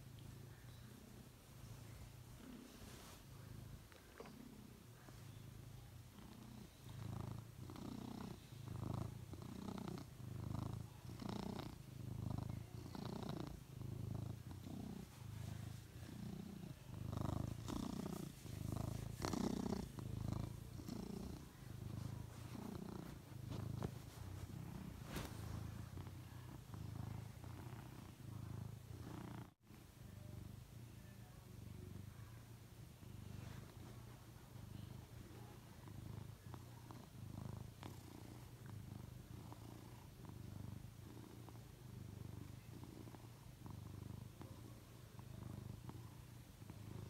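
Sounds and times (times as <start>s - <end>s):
cat purring: 0.0s - 47.0s.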